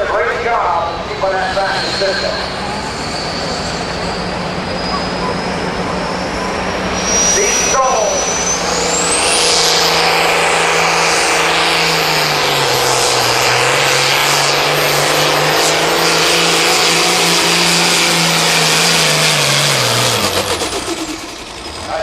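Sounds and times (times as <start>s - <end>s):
diesel tractor engine under load: 0.0s - 22.0s
high turbo whistle: 0.8s - 22.0s.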